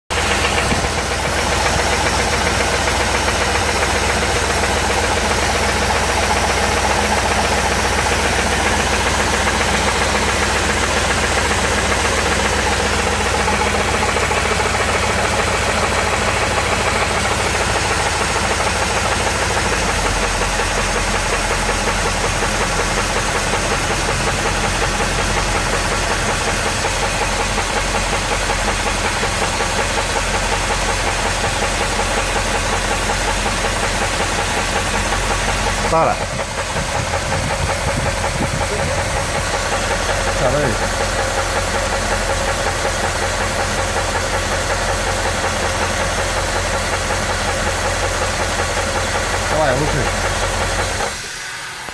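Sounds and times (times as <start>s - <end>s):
car engine running: 0.0s - 51.9s
rhythmic engine knock: 0.0s - 51.9s.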